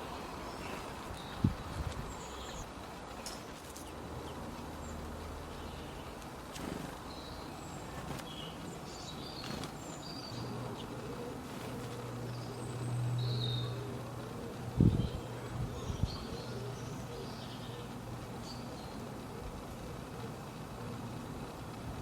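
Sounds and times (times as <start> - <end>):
low steady hum: 0.0 - 22.0
small birds chirping: 0.0 - 22.0.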